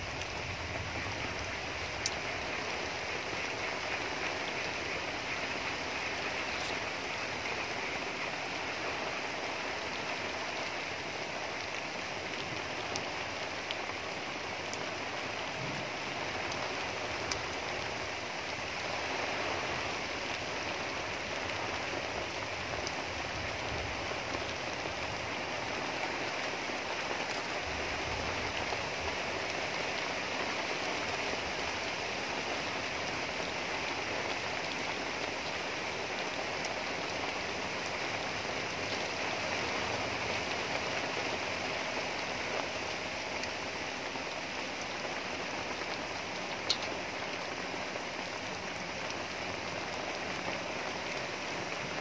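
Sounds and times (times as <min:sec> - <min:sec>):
rain falling on trees: 0:00.0 - 0:52.0.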